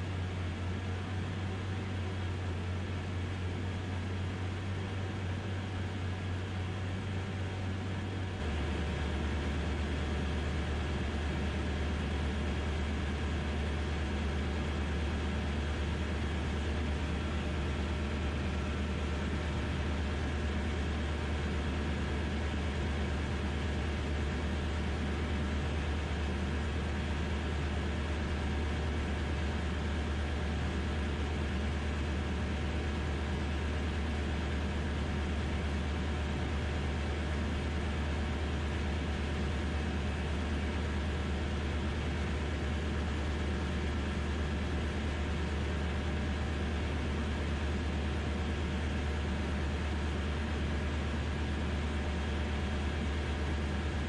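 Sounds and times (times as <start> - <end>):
engine and propeller droning: 0.0 - 54.0.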